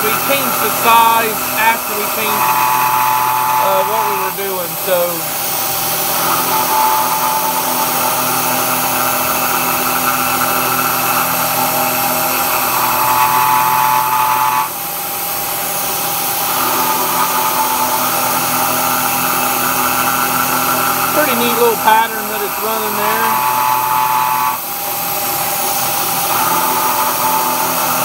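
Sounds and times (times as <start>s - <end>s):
milling machine cutting whine: 0.0s - 28.0s.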